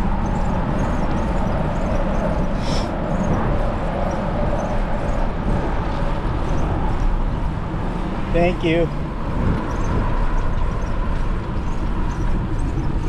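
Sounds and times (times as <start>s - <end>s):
road and traffic noise: 0.0s - 13.0s
wind rush on microphone: 0.0s - 13.0s.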